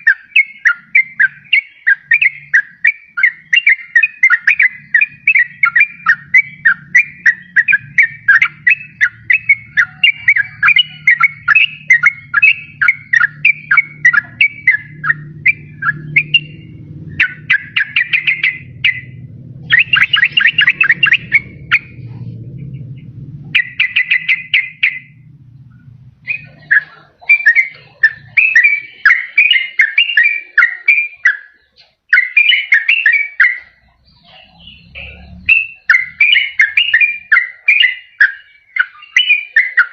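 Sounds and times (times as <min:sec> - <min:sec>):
bird singing whistled phrases: 0:00.0 - 0:25.2, 0:26.2 - 0:39.9
faint low hum: 0:00.0 - 0:32.8, 0:33.4 - 0:37.7.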